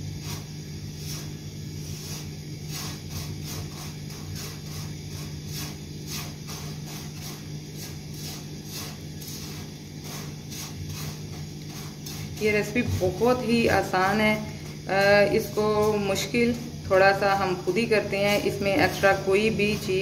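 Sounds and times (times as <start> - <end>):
spatula scraping noodles in a pan: 0.0 - 20.0
steady low hum: 0.0 - 20.0.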